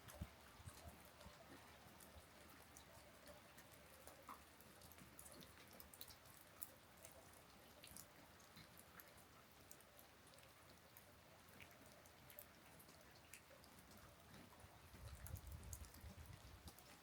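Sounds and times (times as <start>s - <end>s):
raindrops ticking: 0.0s - 17.0s
soft rain hiss: 0.0s - 17.0s.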